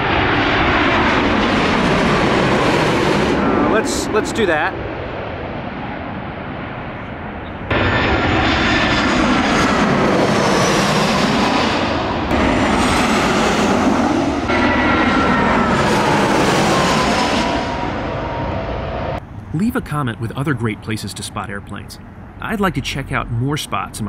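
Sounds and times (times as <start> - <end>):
jet airliners roaring overhead: 0.0 - 24.0.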